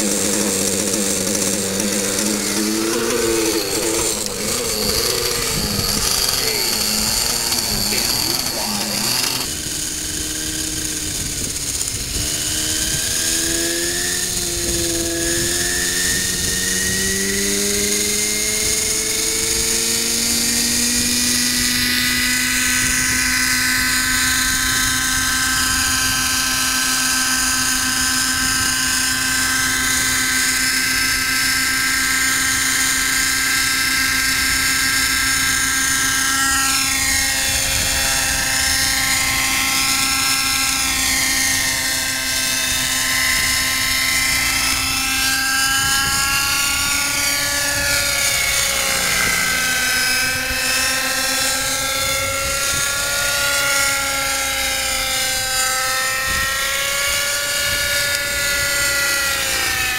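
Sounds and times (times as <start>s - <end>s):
rc helicopter engine whine: 0.0s - 59.9s.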